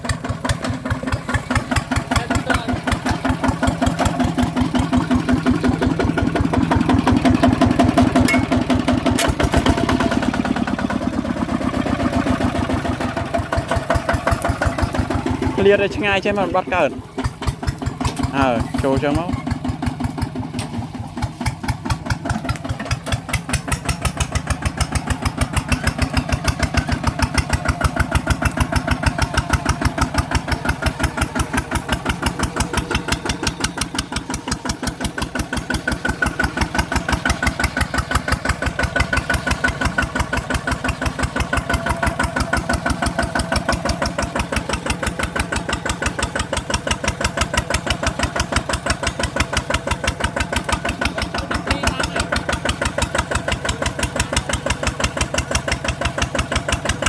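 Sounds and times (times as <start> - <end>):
tractor engine chugging: 0.0 - 57.0.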